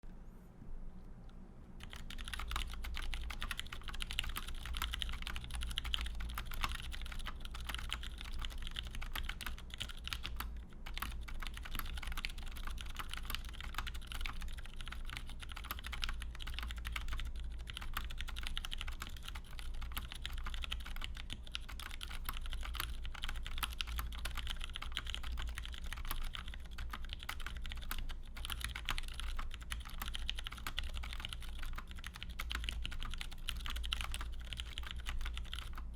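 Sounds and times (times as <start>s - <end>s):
low steady hum: 0.0s - 35.9s
mechanical keyboard typing: 1.8s - 35.9s.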